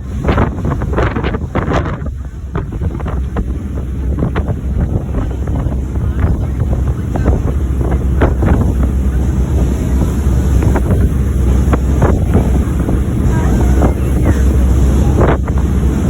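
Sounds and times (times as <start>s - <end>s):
boat engines droning: 0.0s - 16.0s
water rushing along hull: 0.0s - 16.0s
wind buffeting microphone: 0.0s - 16.0s.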